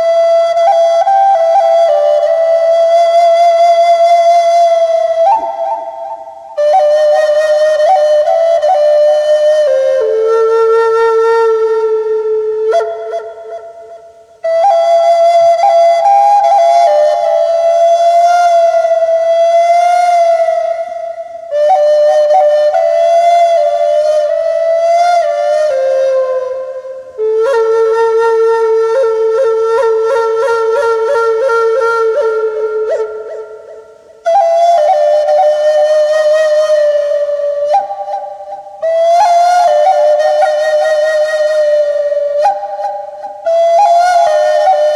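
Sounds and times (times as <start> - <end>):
wooden flute melody: 0.0 - 44.9.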